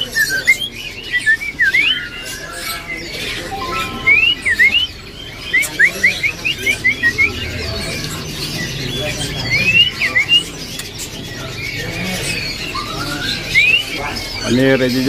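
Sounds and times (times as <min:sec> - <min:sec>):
songbird singing whistled notes: 0:00.0 - 0:15.0.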